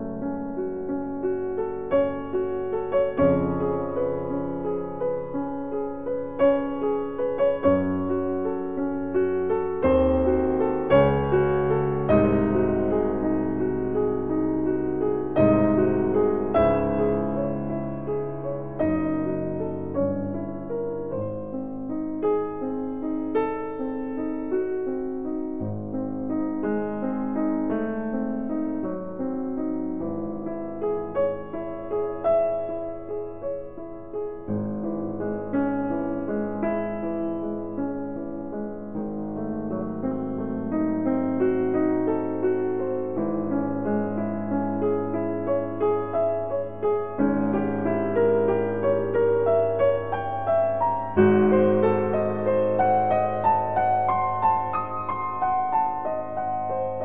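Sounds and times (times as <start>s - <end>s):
slow piano music: 0.0s - 57.0s.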